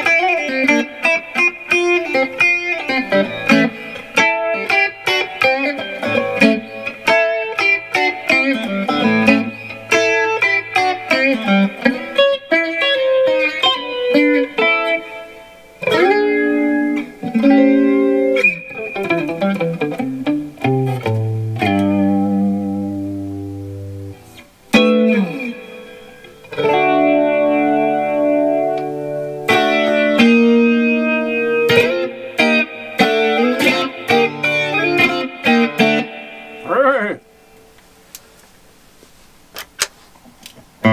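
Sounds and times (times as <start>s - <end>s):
electric guitar through amplifier: 0.0s - 38.6s, 39.6s - 40.9s.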